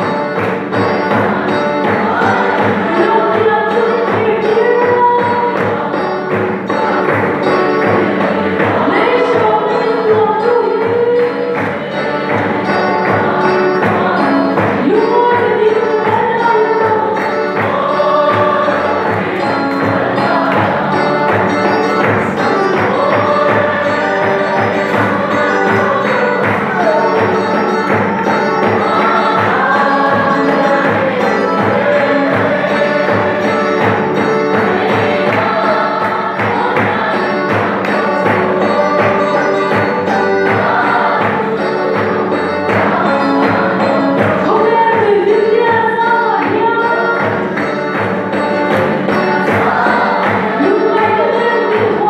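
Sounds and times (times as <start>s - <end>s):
congregation singing a hymn: 0.0s - 52.0s
keyboard: 0.0s - 52.0s
steady drum beat: 0.0s - 52.0s.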